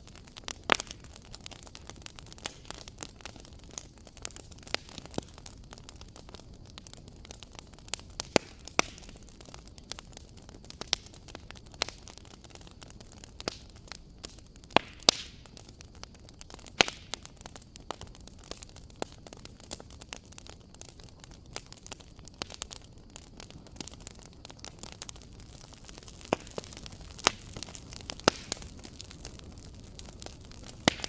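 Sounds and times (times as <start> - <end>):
fire hiss: 0.0 - 31.0
fire snaps and pops: 0.0 - 31.0
wood fire crackling: 0.0 - 31.0.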